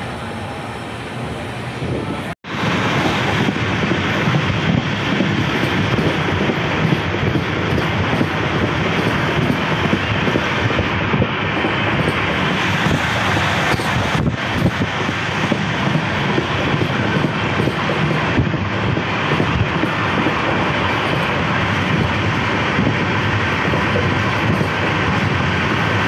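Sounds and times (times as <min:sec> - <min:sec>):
train wheels rushing on rails: 0:00.0 - 0:26.0.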